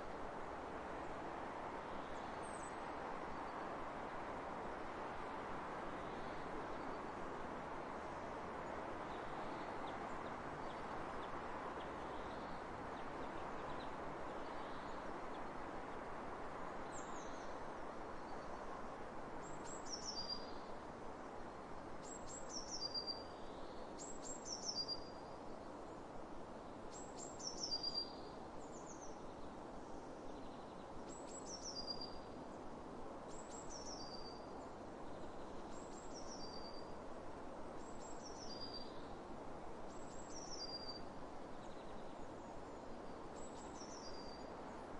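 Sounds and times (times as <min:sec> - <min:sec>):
steady wind: 0:00.0 - 0:44.9.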